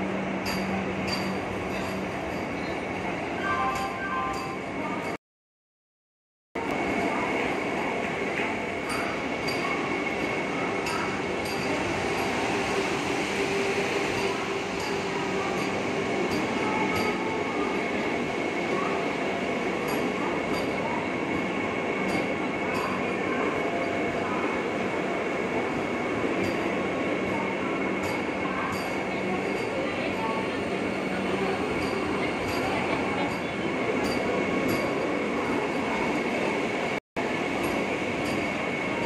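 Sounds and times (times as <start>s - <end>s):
electric train humming: 6.6s - 39.0s.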